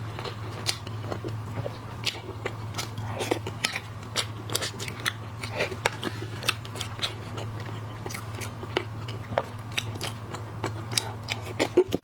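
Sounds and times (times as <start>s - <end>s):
chewing: 0.1s - 12.0s.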